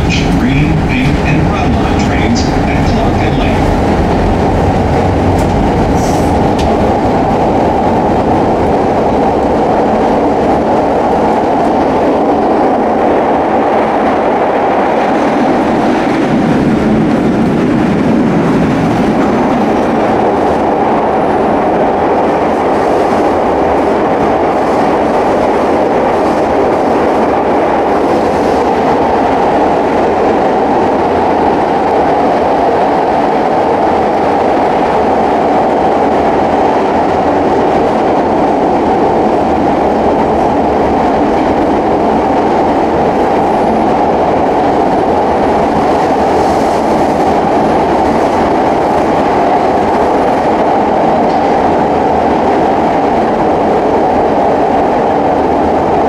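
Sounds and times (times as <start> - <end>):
subway train wheel and track noise: 0.0 - 56.0.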